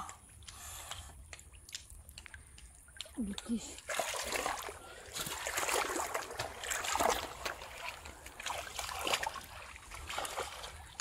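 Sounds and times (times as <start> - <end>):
feet wading through muddy water: 0.0 - 11.0.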